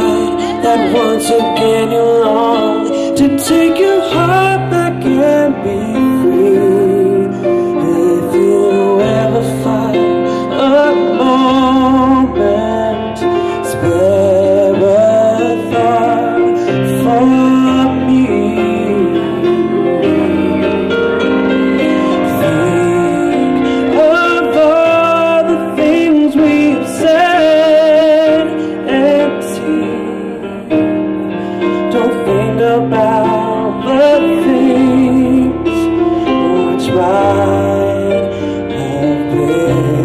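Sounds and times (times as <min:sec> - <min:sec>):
man singing a slow ballad: 0:00.0 - 0:40.0
piano accompaniment: 0:00.0 - 0:40.0.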